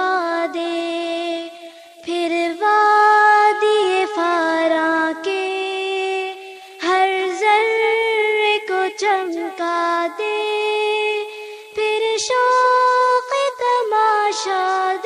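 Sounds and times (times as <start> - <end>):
high voice singing unaccompanied: 0.0 - 15.0.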